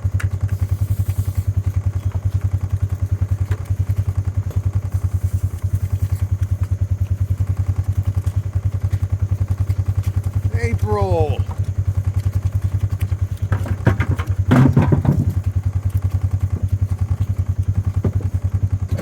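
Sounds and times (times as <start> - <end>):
engine running with low pulsing: 0.0 - 19.0.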